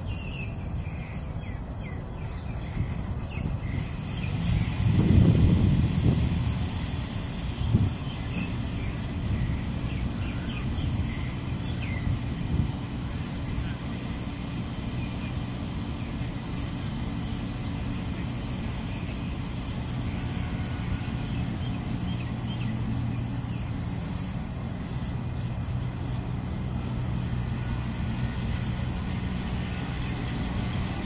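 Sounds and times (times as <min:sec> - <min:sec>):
constant low hum: 0:00.0 - 0:31.0
road traffic drone: 0:00.0 - 0:31.0.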